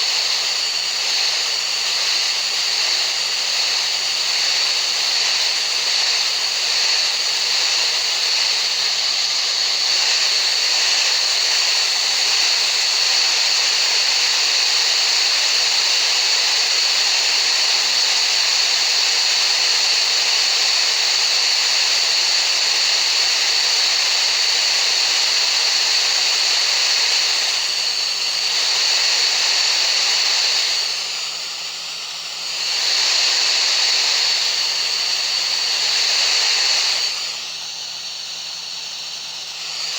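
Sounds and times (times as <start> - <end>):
steady rushing hiss: 0.0 - 39.9.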